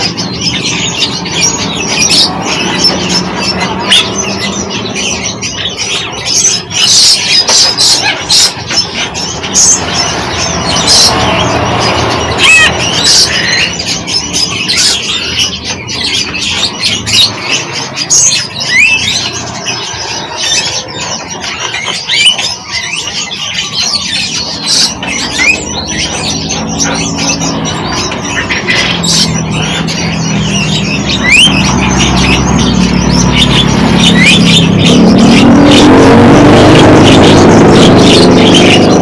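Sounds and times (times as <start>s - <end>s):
songbirds chirping and squawking: 0.0s - 39.0s.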